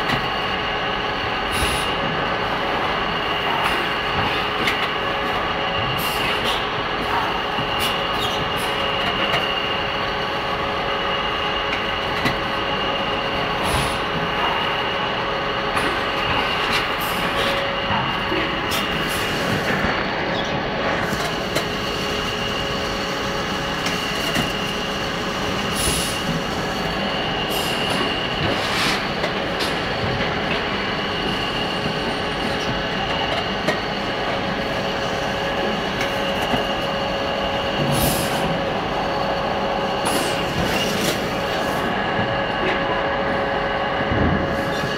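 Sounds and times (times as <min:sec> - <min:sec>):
machinery running with whine: 0:00.0 - 0:44.9.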